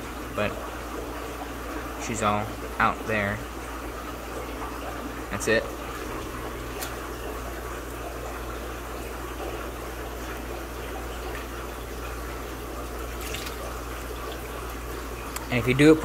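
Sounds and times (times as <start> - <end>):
aquarium water running and splashing: 0.0 - 16.0
low steady hum: 0.0 - 16.0.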